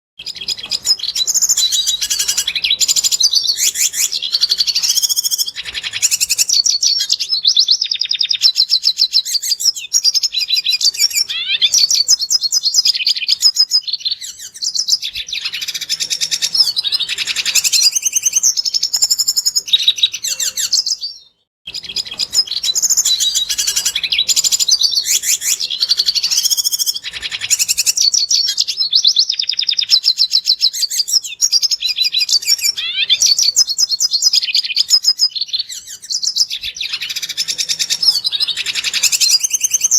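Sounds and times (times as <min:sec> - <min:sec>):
bird singing twittering song: 0:00.2 - 0:39.9.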